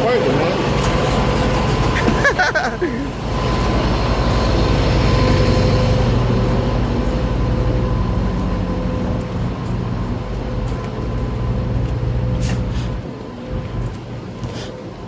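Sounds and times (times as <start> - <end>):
truck diesel engine idling: 0.0 - 13.1.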